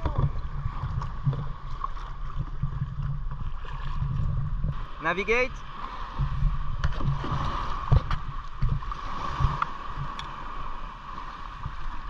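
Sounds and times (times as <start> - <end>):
low uneven rumble: 0.0 - 12.0
paddle strokes splashing: 0.0 - 12.0
water sloshing against hull: 0.0 - 12.0.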